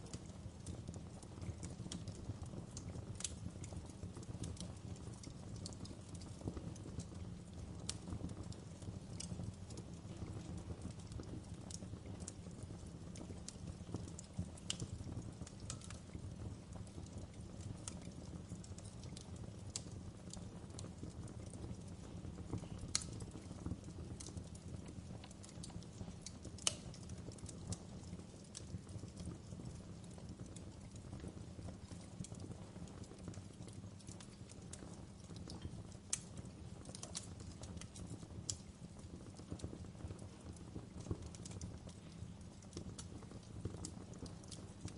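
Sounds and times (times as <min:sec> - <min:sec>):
fire crackling and popping: 0:00.0 - 0:44.9
low rumble of flames: 0:00.0 - 0:44.9.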